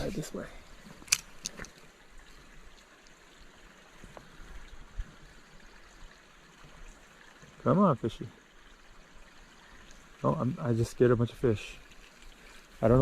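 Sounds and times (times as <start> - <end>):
creek trickling: 0.0 - 13.0.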